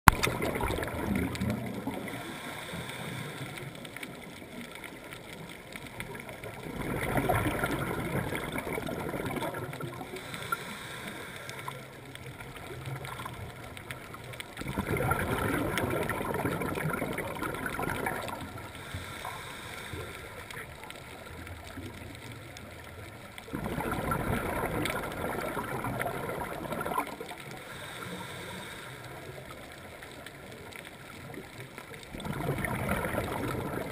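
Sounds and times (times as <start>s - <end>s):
diver's bubbles gurgling underwater: 0.1s - 10.9s, 12.0s - 33.9s
quiet hiss: 0.1s - 33.9s.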